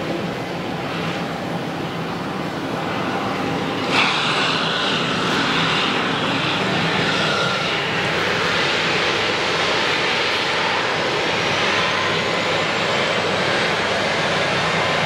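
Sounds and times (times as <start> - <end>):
jet engine starting up: 0.0 - 15.0.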